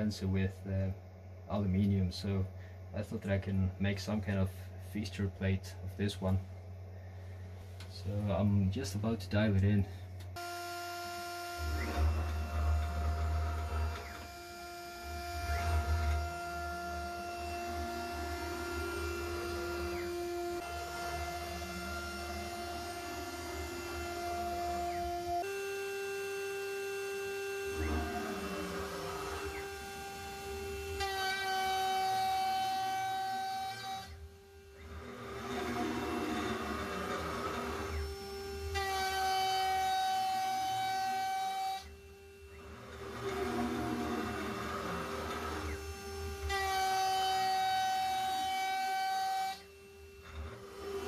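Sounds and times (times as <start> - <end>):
router spindle whining: 7.8 - 51.0.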